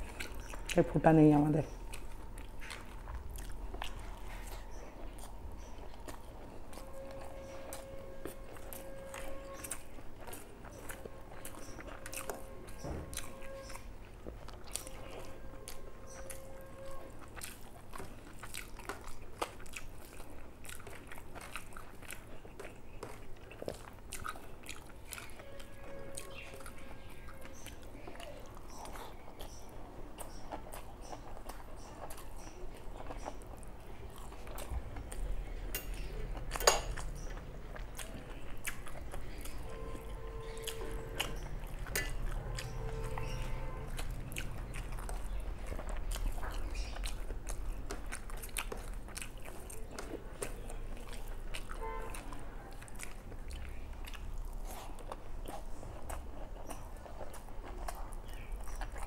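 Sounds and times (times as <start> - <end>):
crunching fried food: 0.0 - 59.0
person chewing food: 0.0 - 59.0.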